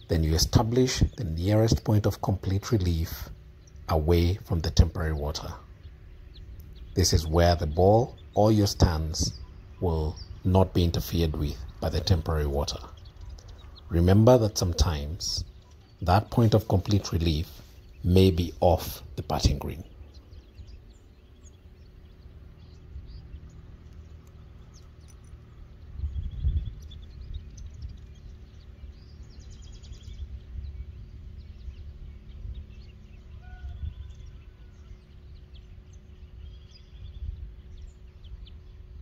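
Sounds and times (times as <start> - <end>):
birds chirping: 0.0 - 39.0
wind rumble on microphone: 0.0 - 39.0.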